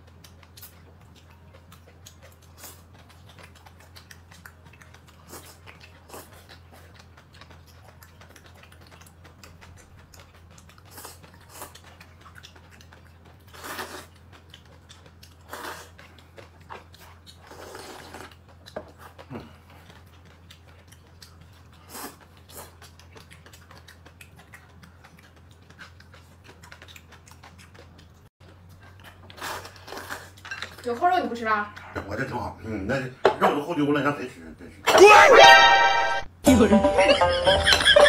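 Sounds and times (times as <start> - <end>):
person chewing: 0.0 - 30.8.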